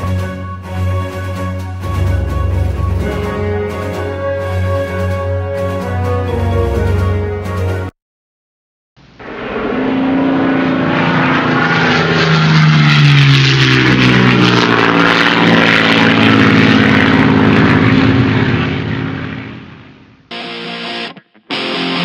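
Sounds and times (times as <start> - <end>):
propeller airplane flying past: 0.0 - 7.4, 9.2 - 20.3.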